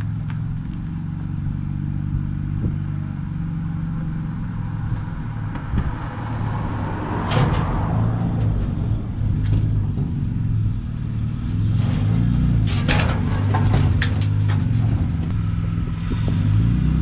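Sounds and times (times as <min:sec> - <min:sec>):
car engine idling: 0:00.0 - 0:16.1.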